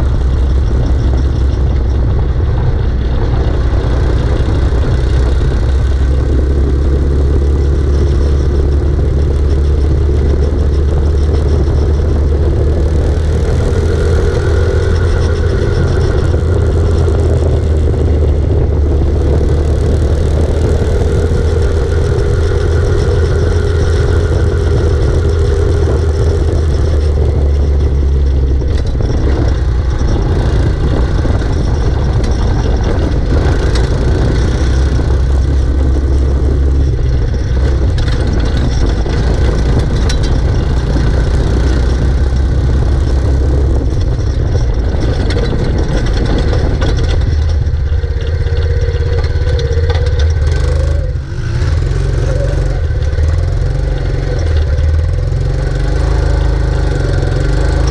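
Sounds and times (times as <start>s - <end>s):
quad bike engines rumbling: 0.0s - 57.9s.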